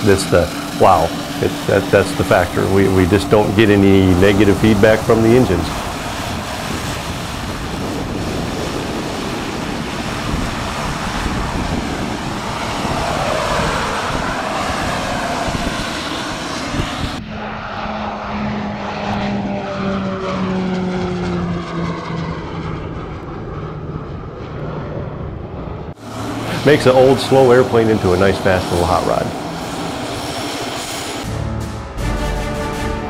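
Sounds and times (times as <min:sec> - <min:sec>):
propeller plane passing: 0:00.0 - 0:33.0
turboprop plane engine rush: 0:00.0 - 0:33.0.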